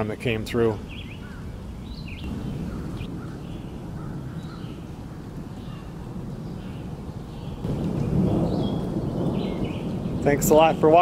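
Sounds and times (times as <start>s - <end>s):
low rumble of stormy weather: 0.0s - 11.0s
bird calls: 0.7s - 10.4s.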